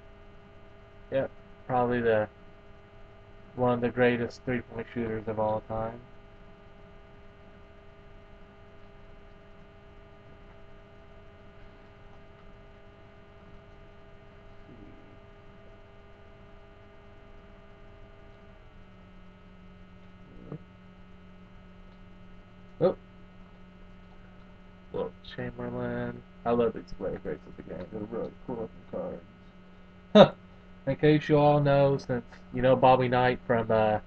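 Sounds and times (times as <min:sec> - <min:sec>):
faint electrical hum: 0:00.0 - 0:34.0.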